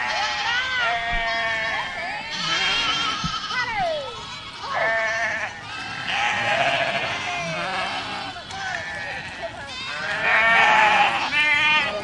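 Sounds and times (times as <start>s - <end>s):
goats bleating: 0.0s - 12.0s.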